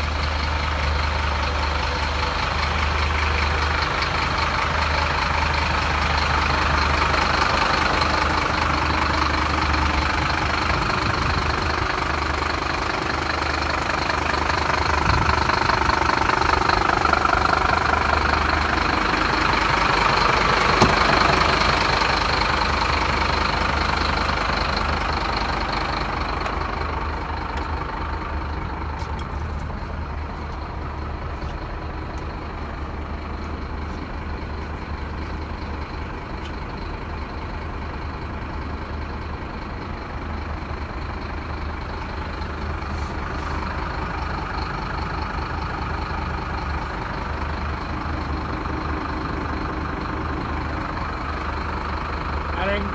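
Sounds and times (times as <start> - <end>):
truck diesel engine idling: 0.0 - 52.9.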